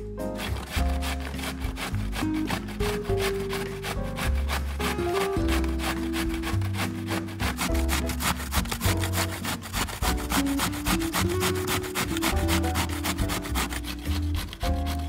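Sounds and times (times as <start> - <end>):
soft background music: 0.0 - 15.0
zucchini grated on hand grater: 0.4 - 15.0.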